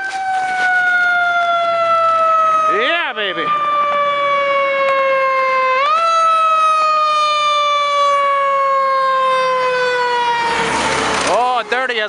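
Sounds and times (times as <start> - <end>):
fire truck siren: 0.0 - 12.0.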